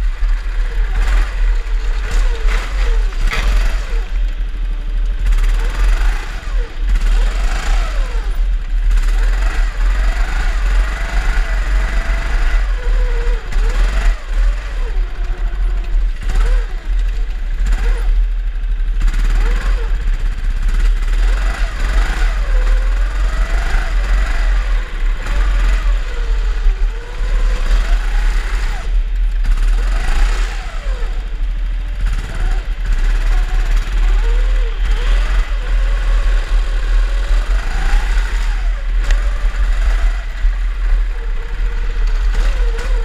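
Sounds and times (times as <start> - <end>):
constant deep rumble: 0.0 - 43.0
kart motors revving: 0.0 - 43.0.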